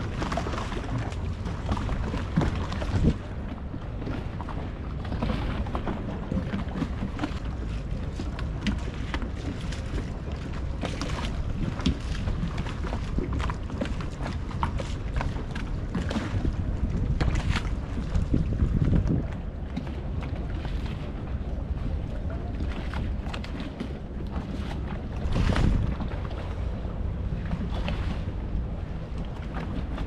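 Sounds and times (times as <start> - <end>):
water lapping: 0.0 - 30.0
wind rumbling on microphone: 0.0 - 30.0.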